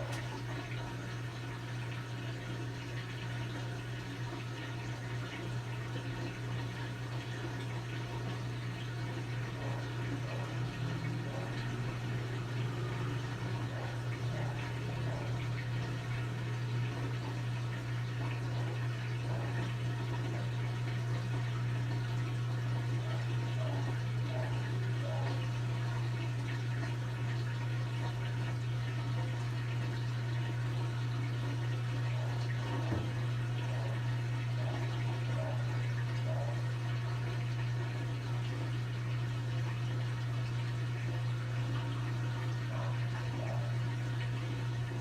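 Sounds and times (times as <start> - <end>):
washing machine low hum: 0.0 - 45.0
water rushing through washing machine: 0.0 - 45.0.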